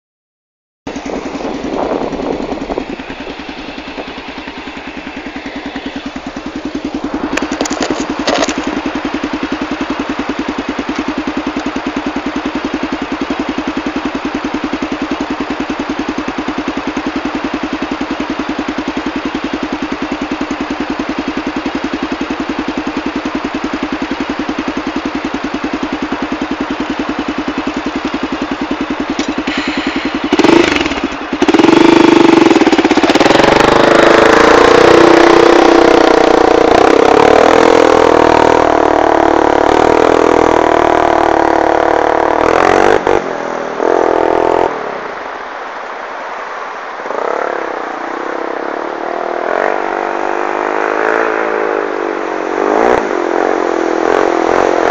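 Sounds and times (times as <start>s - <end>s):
engine idling: 0.9s - 47.0s.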